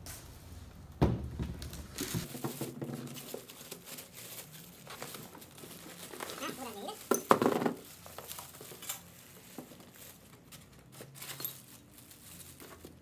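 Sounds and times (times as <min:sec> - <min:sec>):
plastic wrapping crinkling: 0:01.7 - 0:13.0.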